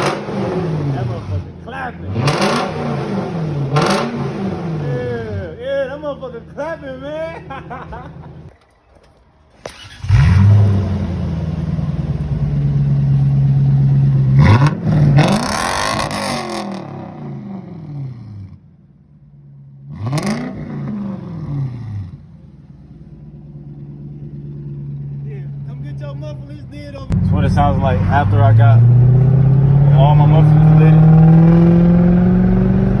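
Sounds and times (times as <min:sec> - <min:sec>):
loud car engine idling and revving: 0:00.0 - 0:08.5, 0:09.6 - 0:33.0.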